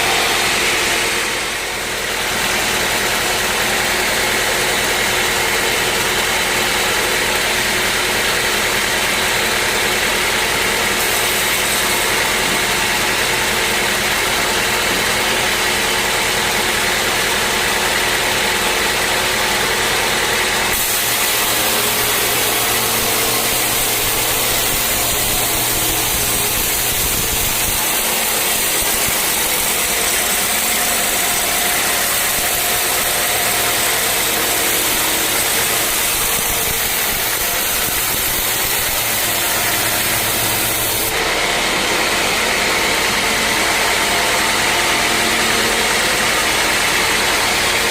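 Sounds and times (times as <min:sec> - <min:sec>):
sawmill machinery drone: 0:00.0 - 0:47.9.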